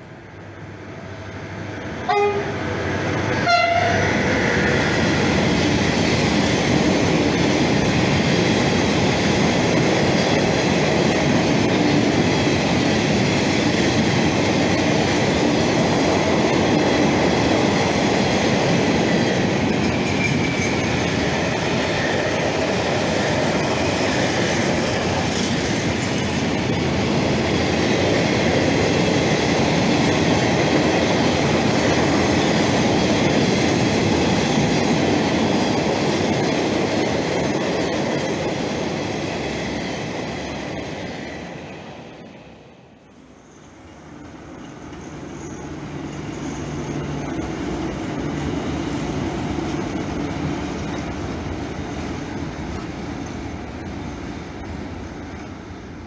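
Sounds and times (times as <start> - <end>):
diesel locomotive passing: 0.0 - 56.0
train rolling past rumbling: 0.0 - 56.0.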